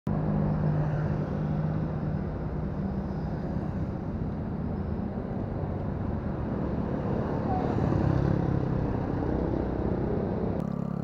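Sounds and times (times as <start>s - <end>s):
road noise: 0.1s - 11.0s
vehicle engine hum: 0.1s - 11.0s.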